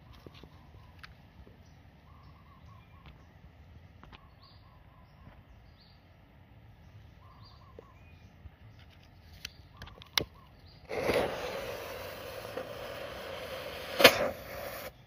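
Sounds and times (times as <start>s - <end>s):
distant birds calling: 0.0s - 15.0s.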